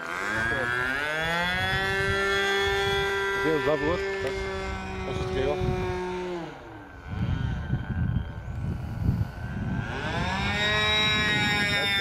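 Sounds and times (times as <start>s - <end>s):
model plane engine whine: 0.0s - 12.0s
wind rumble on microphone: 0.0s - 12.0s.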